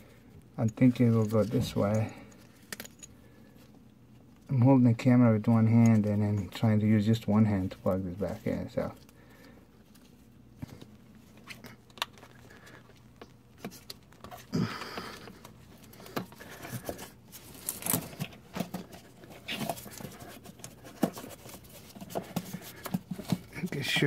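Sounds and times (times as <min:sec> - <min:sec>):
handling rustles: 0:00.6 - 0:04.6, 0:05.3 - 0:24.0.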